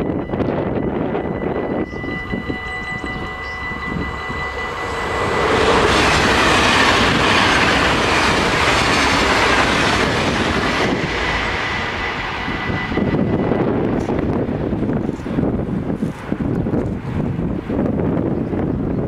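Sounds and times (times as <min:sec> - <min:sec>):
level-crossing warning bells: 0:00.0 - 0:16.9
train wheels rushing on track: 0:00.0 - 0:19.0.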